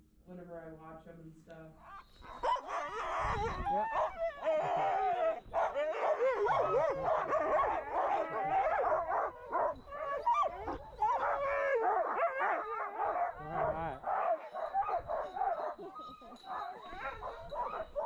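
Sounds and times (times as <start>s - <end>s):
sled dogs howling and barking: 1.8s - 18.0s.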